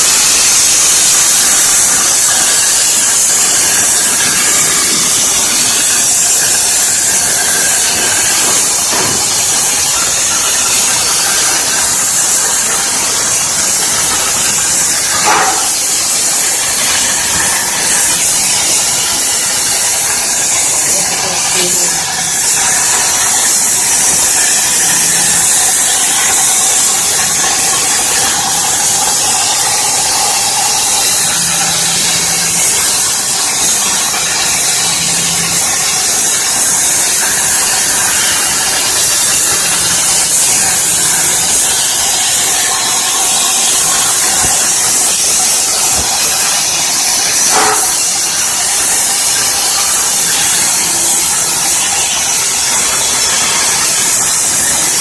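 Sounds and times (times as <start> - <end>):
plasma torch hissing: 0.0 - 55.0.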